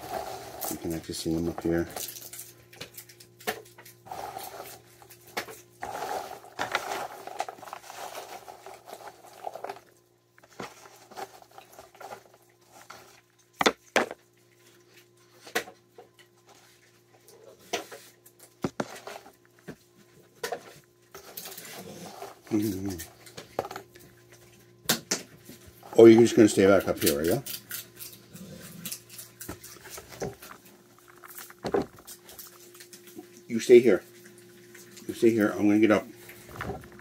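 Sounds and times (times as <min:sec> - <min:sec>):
raccoon handling peanut shells: 0:00.0 - 0:37.0
steady low hum: 0:00.0 - 0:37.0.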